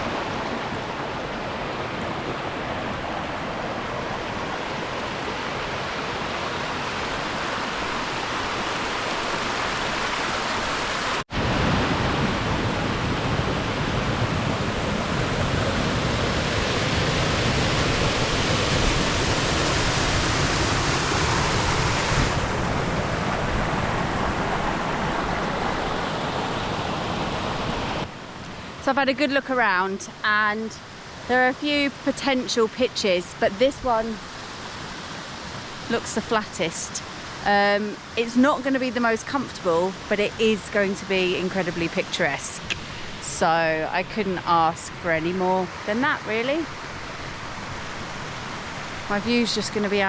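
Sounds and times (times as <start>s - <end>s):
mountain stream and waterfall rushing: 0.0s - 29.8s, 33.9s - 50.0s.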